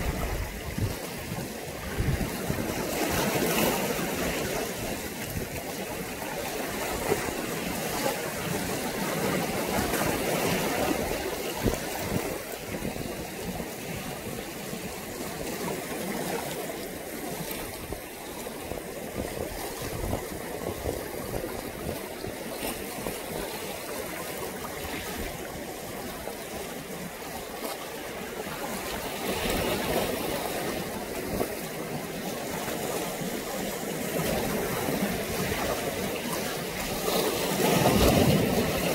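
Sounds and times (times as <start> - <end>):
choppy sea water lapping: 0.0 - 38.9.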